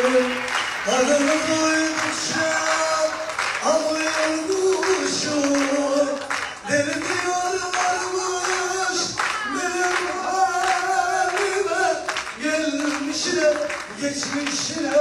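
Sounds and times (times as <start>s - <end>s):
crowd clapping along: 0.0s - 15.0s.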